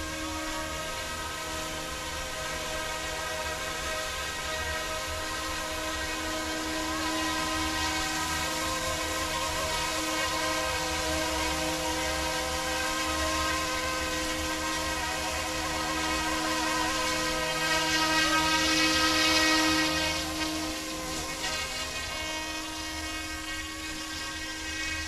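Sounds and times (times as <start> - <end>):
rc helicopter motor whine: 0.0 - 25.0.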